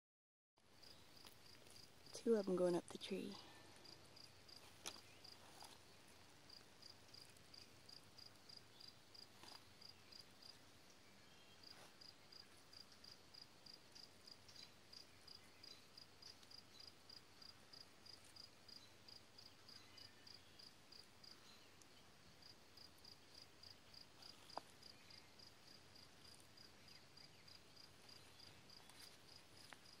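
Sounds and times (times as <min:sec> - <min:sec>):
cricket chirping: 0:00.7 - 0:02.1, 0:03.8 - 0:30.0.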